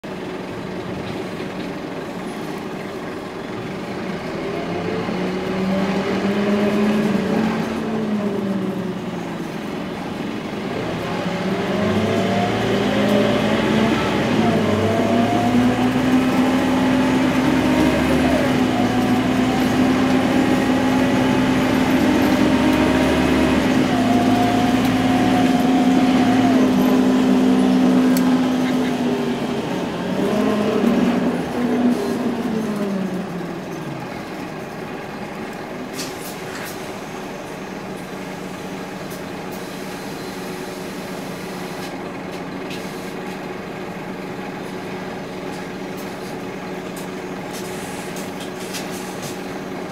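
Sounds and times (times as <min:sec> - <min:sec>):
bus engine accelerating: 0:00.0 - 0:49.9.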